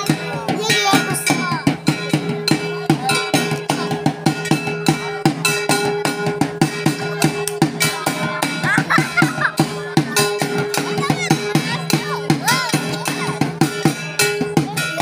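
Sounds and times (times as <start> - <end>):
barrel drum beaten fast: 0.0 - 15.0
metallic hand percussion: 0.0 - 15.0.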